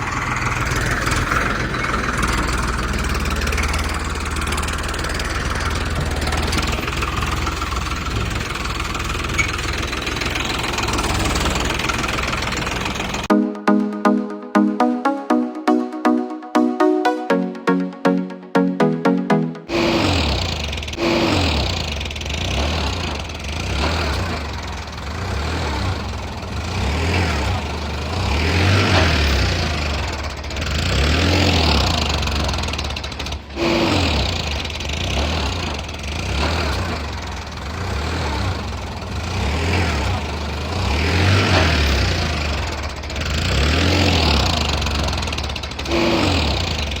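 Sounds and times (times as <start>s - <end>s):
tractor engine running: 0.0s - 13.3s, 19.7s - 47.0s.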